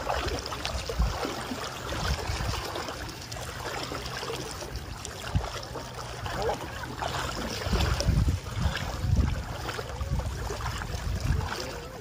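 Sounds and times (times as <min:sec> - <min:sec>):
wind buffeting microphone: 0:00.0 - 0:04.0, 0:04.7 - 0:12.0
water sloshing around wading legs: 0:00.0 - 0:12.0.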